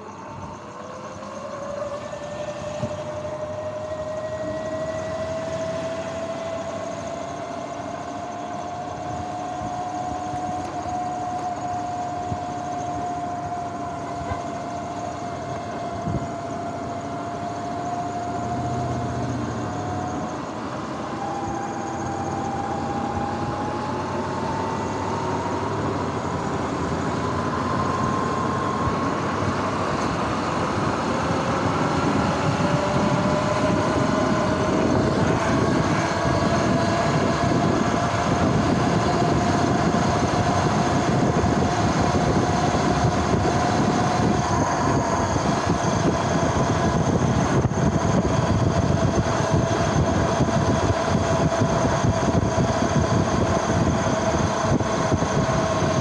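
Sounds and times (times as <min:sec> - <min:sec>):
wind and tyre noise: 0:00.0 - 0:56.0
electric motor whining: 0:00.1 - 0:56.0.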